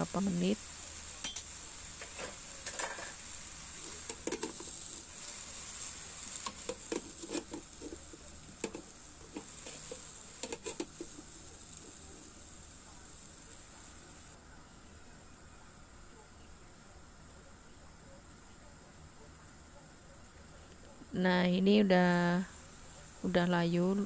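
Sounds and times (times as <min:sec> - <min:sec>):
vegetables frying in a wok: 0:00.0 - 0:24.0.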